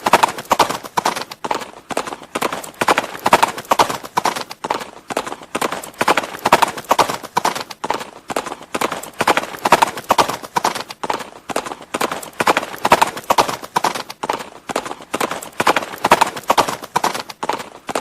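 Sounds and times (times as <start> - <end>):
horse hooves clip-clopping: 0.0 - 18.0.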